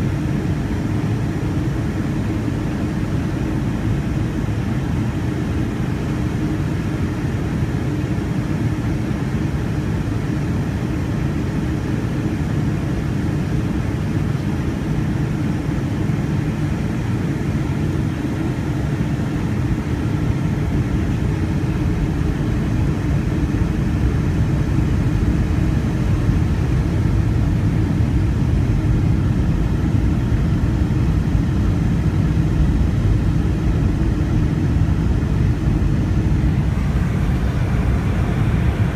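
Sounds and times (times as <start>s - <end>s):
aircraft engine and airflow rush: 0.0s - 38.9s.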